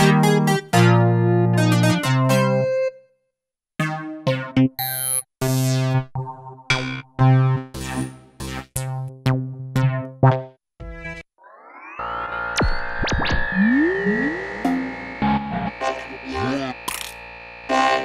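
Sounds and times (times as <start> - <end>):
synthesizer keyboard notes and chords: 0.0 - 3.2, 3.8 - 18.0.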